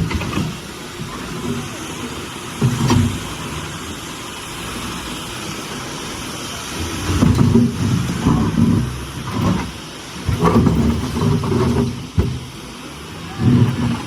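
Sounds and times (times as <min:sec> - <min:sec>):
heavy diesel engine revving: 0:00.0 - 0:14.0.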